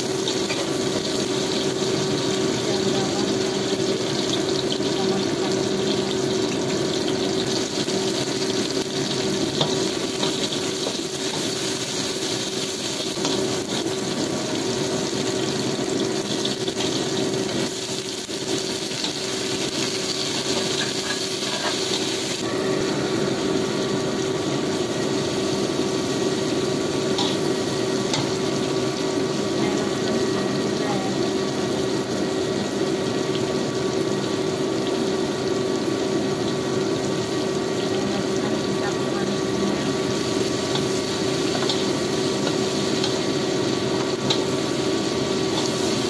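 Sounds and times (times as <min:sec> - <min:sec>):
food sizzling in a wok: 0:00.0 - 0:46.0.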